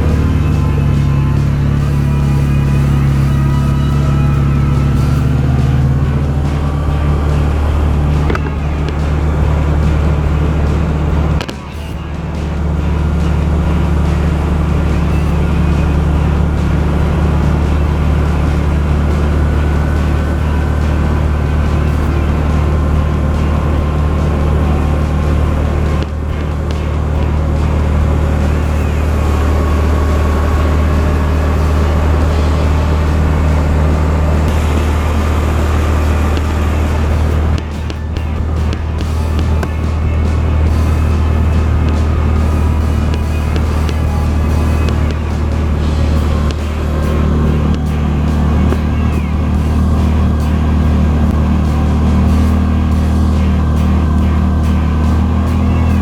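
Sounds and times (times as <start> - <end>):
background music: 0.0 - 56.0
vehicle engine drone with whine: 0.0 - 56.0.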